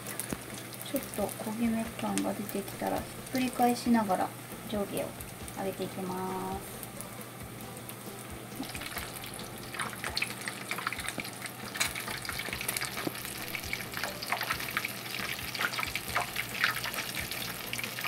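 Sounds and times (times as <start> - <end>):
oil sizzling with popping crackles: 0.0 - 18.0.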